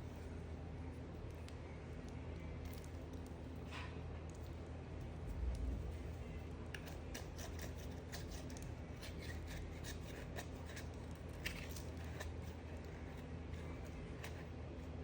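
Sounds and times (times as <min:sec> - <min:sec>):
low steady hum: 0:00.0 - 0:15.0
knife cutting soap crackles: 0:00.9 - 0:15.0.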